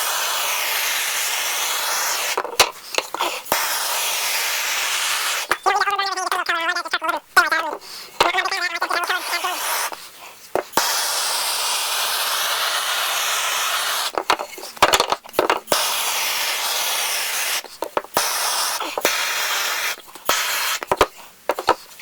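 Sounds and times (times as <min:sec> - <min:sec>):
blowtorch flame hissing: 0:00.0 - 0:14.8, 0:15.7 - 0:21.1.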